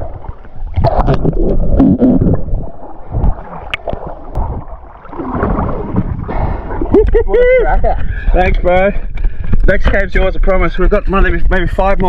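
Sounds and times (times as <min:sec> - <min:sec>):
water gurgling and sloshing: 0:00.0 - 0:12.0.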